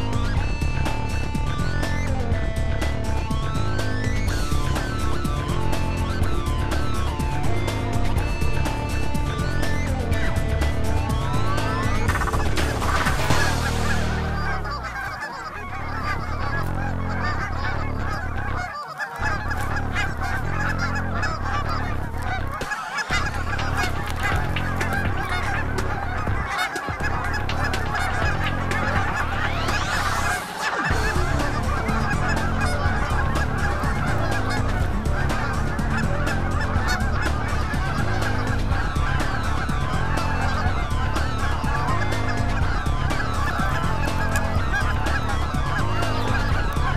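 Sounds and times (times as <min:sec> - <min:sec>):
geese honking: 0:00.0 - 0:46.9.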